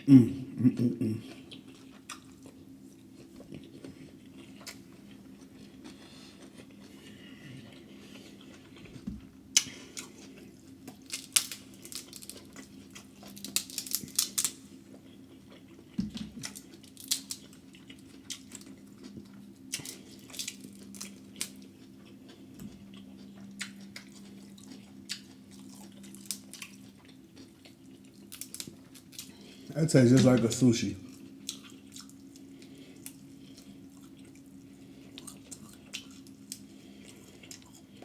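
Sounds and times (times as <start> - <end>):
steady low hum: 0.0 - 38.0
wet chewing and lip smacking: 1.2 - 29.6, 31.1 - 38.0.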